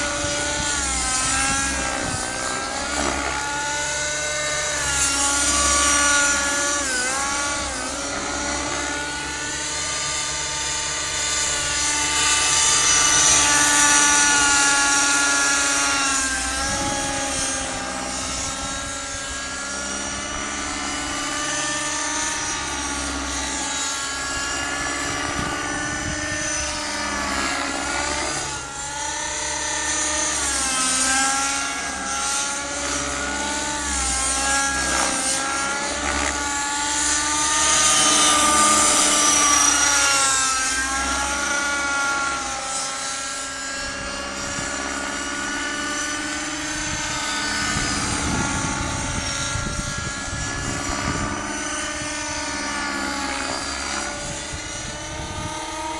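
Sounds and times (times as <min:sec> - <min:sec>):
rc helicopter engine and rotors: 0:00.0 - 0:55.9.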